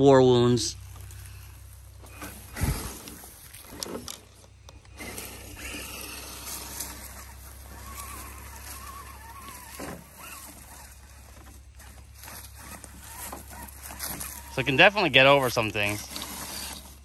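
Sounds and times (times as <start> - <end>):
electric motor and drivetrain whine: 0.6 - 17.0.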